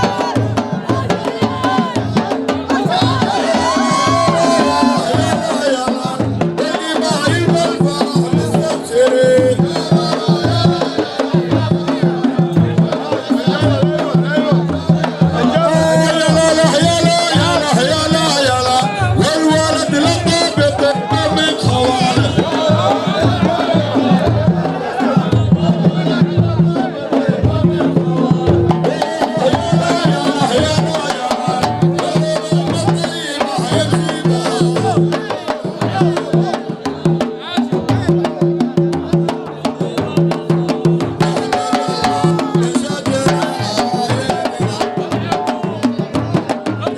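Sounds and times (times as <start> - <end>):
drums beating: 0.0 - 46.9.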